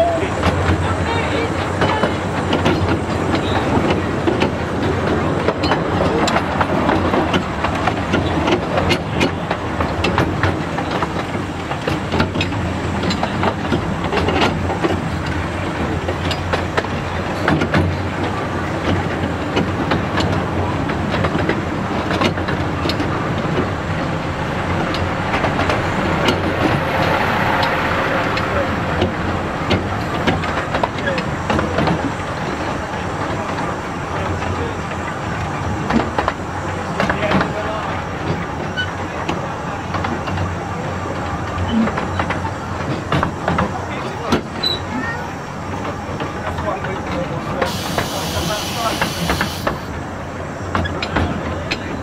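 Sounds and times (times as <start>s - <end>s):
rumble of wheels on rails: 0.0s - 52.0s
track clicks and rattles: 0.4s - 44.8s.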